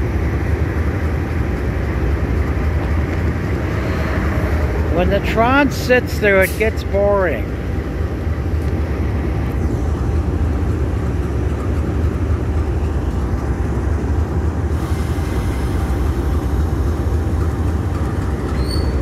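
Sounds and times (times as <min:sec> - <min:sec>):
diesel locomotive idling: 0:00.0 - 0:19.0.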